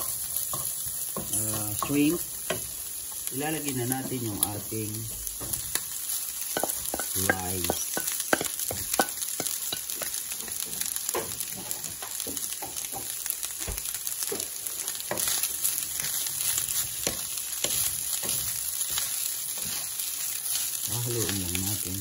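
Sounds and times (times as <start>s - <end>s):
spoon and spatula scraping a pan: 0.0s - 4.7s, 5.3s - 20.9s
rice sizzling in a pan: 0.0s - 22.0s.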